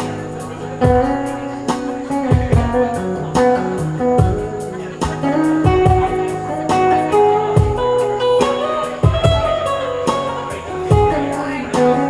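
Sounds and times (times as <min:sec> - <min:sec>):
reggae guitar notes: 0:00.0 - 0:12.0
steady low beat: 0:00.0 - 0:12.0.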